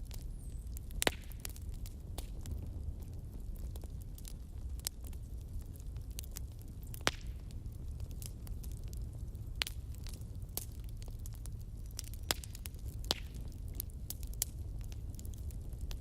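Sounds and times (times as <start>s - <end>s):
bonfire crackling and popping: 0.0s - 16.0s
low rumble of burning: 0.0s - 16.0s.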